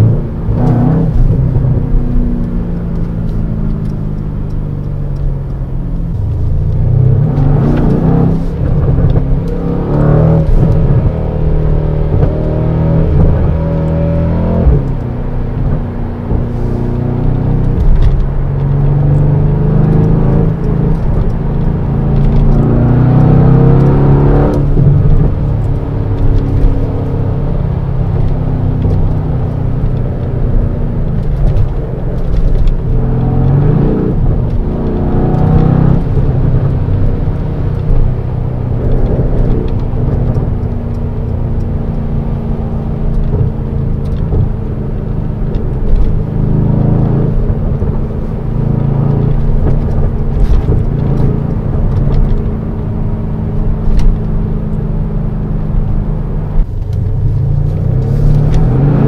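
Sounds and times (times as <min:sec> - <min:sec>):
car engine drone in cabin: 0:00.0 - 0:59.0.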